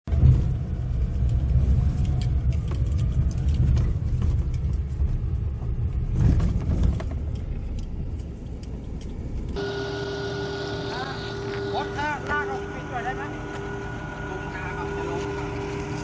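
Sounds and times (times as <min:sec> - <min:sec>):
loud uneven low rumble: 0:00.1 - 0:16.0.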